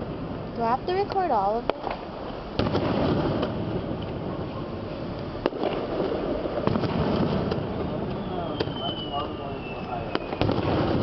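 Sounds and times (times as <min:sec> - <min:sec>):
dense rumble of noise: 0:00.0 - 0:11.0
fireworks bangs: 0:00.0 - 0:11.0.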